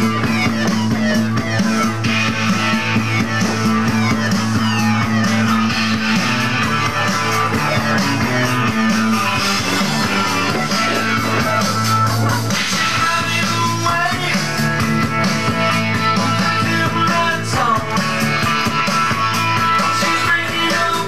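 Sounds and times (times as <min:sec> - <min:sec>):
held bass line: 0:00.0 - 0:21.0.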